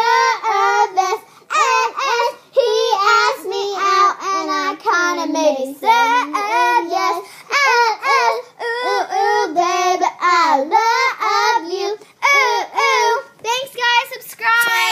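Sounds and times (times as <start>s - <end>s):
child singing: 0.0s - 14.9s.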